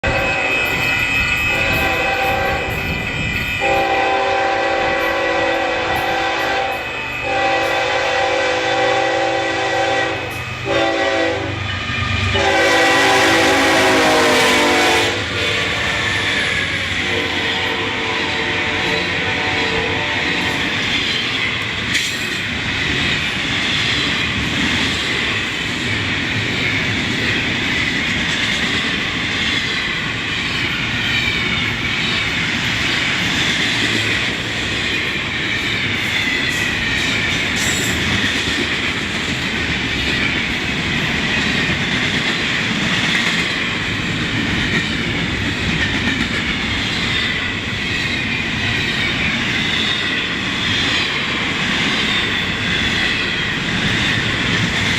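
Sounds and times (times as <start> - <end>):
train wheels on rails: 0.0 - 54.9.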